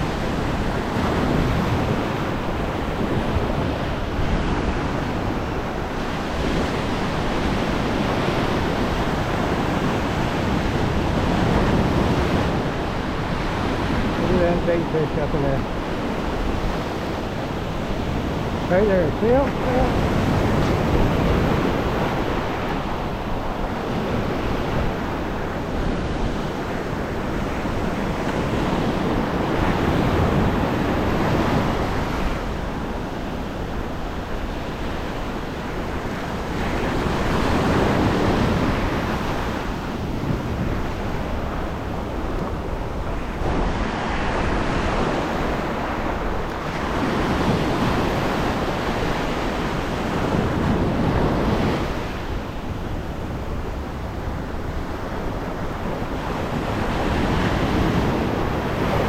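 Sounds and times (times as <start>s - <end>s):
waves washing in: 0.0s - 59.0s
wind on microphone: 0.0s - 59.0s.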